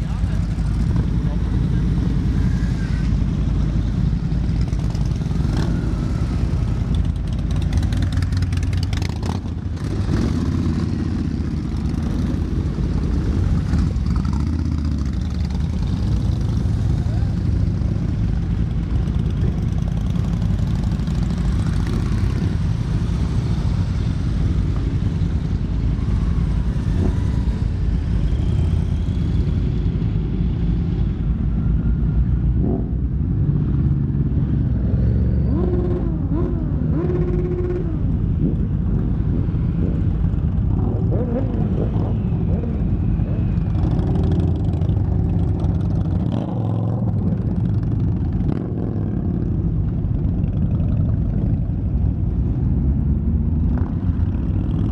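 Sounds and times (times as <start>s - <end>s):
motorcycle engine revving: 0.0s - 29.5s, 32.5s - 51.6s
motorcycles riding past slowly: 0.0s - 54.9s.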